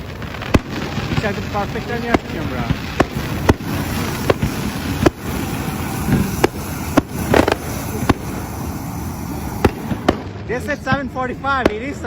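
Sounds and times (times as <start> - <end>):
firework bangs: 0.0 - 12.0
firework crackle: 0.0 - 12.0.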